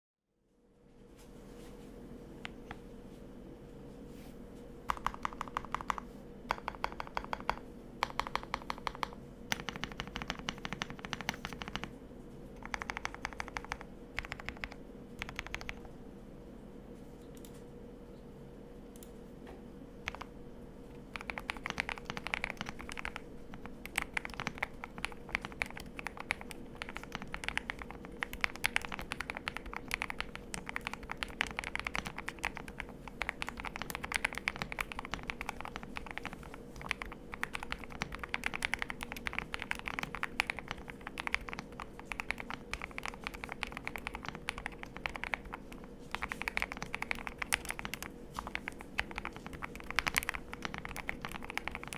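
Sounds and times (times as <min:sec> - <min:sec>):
fast typing on mechanical keyboard: 0:04.9 - 0:12.0, 0:12.6 - 0:16.0, 0:20.0 - 0:20.3, 0:21.0 - 0:51.9.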